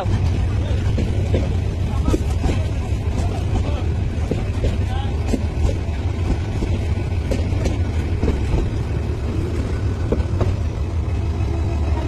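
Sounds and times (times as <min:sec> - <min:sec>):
train rolling past: 0:00.0 - 0:12.0
wheels and couplings clanking: 0:00.0 - 0:12.0.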